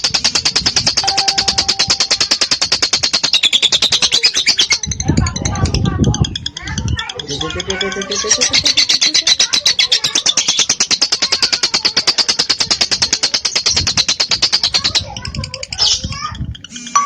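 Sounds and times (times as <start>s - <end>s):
soft bird chatter: 0.0s - 17.0s
lovebird chattering trill: 0.2s - 16.8s.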